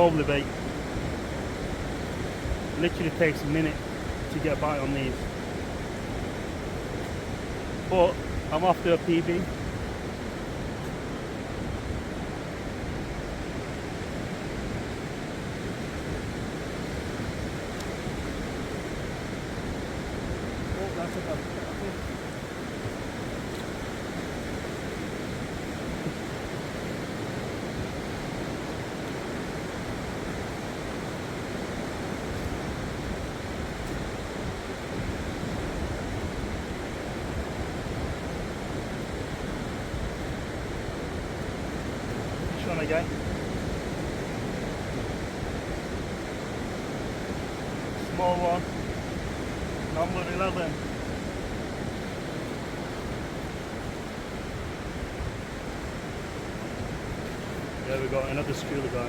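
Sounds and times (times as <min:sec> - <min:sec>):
sea surf: 0:00.0 - 0:59.0
wind rumbling on microphone: 0:00.0 - 0:59.0.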